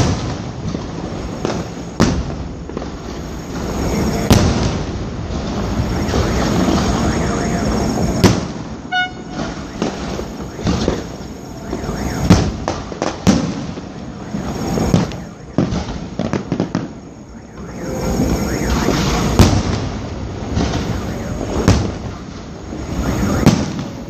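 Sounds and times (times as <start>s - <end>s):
fireworks rumbling: 0.0s - 24.0s
sharp firework bangs: 0.0s - 24.0s.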